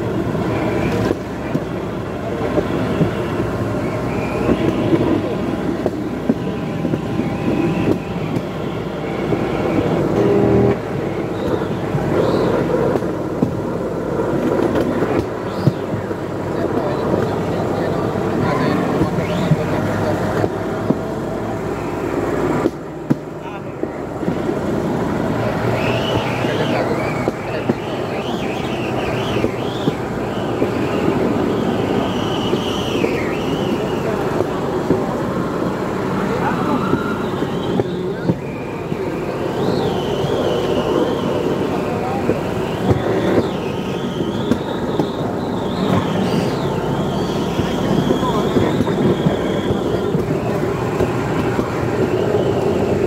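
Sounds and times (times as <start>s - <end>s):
high wavering whine: 0.0s - 53.0s
loud steady hum: 0.0s - 53.0s
rail trolley running on track: 0.0s - 53.0s.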